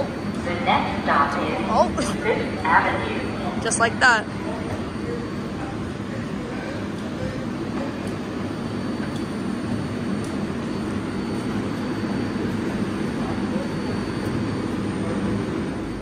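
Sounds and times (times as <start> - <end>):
faint high whine: 0.0 - 16.0
subway train rumble and hum: 0.0 - 16.0.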